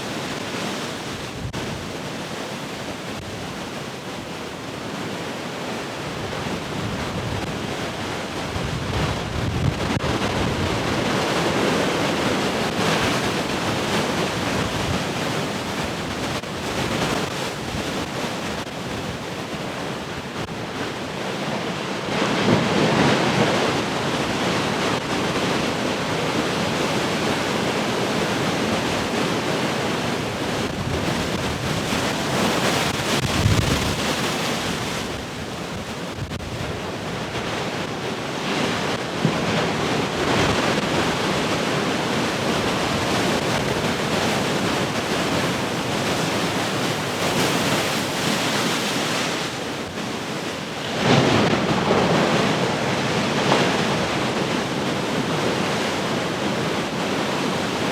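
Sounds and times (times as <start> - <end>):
large ocean waves breaking: 0.0 - 57.9
wind gusting on microphone: 5.8 - 57.9.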